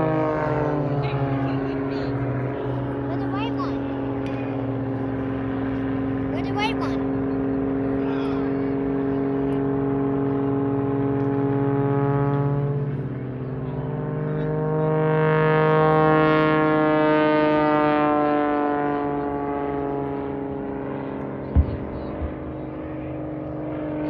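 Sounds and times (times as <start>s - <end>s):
aircraft engine droning: 0.0s - 24.0s.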